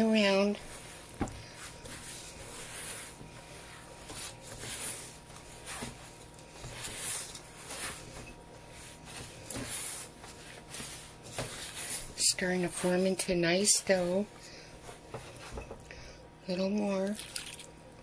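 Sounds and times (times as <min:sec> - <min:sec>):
hands squishing dough: 0:00.0 - 0:15.8.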